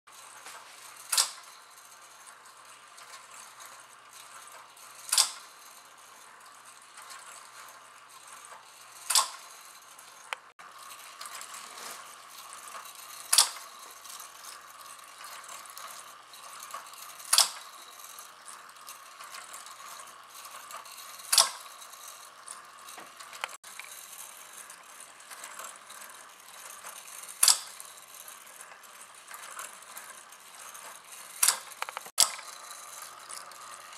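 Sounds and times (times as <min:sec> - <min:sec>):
gear motor whirring and rattling: 0:00.1 - 0:33.9
light mechanical ticks: 0:00.2 - 0:11.6, 0:12.2 - 0:33.9.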